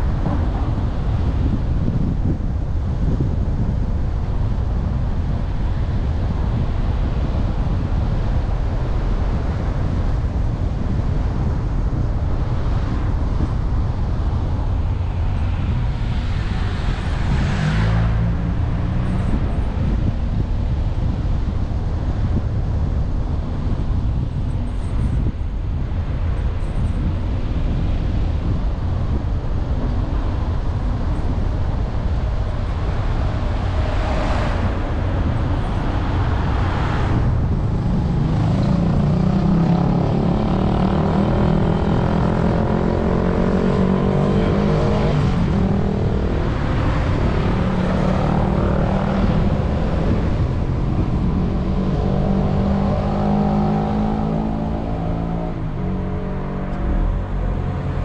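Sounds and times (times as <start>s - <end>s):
vehicle road and wind noise: 0.0s - 58.0s.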